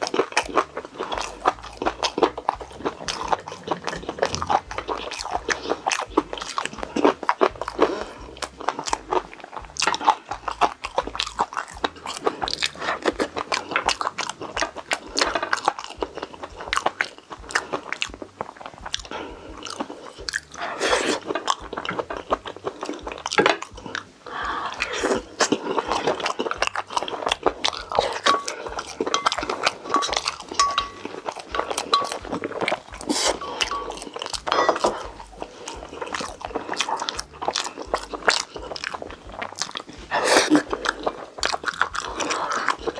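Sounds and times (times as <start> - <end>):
person chewing food: 0.0 - 42.9
wet mouth clicks: 0.0 - 42.9.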